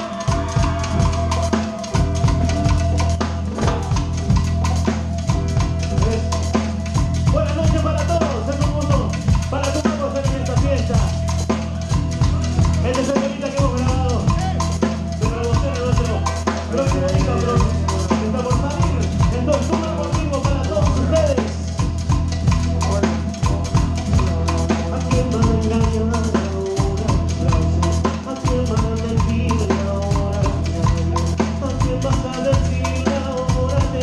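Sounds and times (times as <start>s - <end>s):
bass line: 0.0s - 34.0s
drum kit playing: 0.0s - 34.0s
lead melody line: 0.0s - 34.0s.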